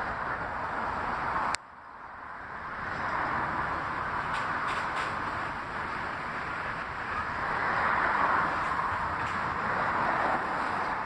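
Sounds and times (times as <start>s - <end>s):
train wheels rolling on rails: 0.0s - 11.0s.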